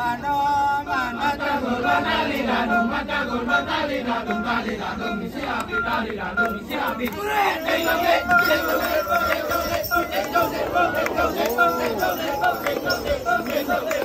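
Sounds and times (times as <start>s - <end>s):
held sung notes: 0.0s - 14.0s
men chanting rhythmic syllables: 0.0s - 14.0s.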